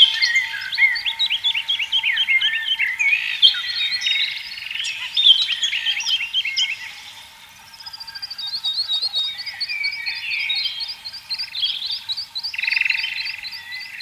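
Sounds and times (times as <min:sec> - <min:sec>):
songbirds chorus: 0:00.0 - 0:14.0.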